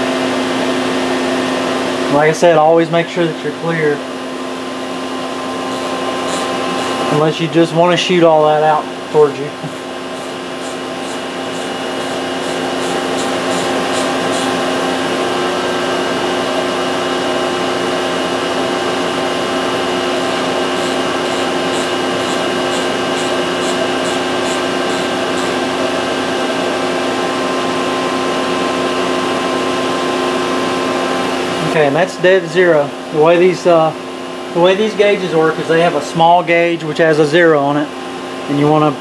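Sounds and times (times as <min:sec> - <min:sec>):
machining centre hum: 0:00.0 - 0:39.0.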